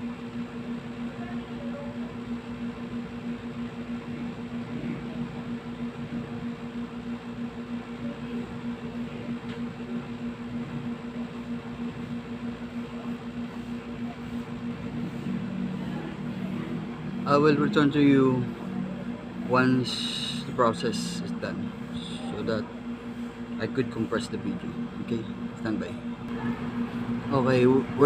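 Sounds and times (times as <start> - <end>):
air conditioner unit humming: 0.0 - 28.0.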